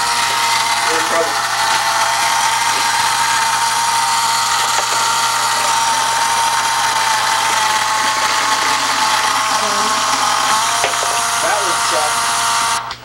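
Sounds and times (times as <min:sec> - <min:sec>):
electric gear motor whining: 0:00.0 - 0:13.0.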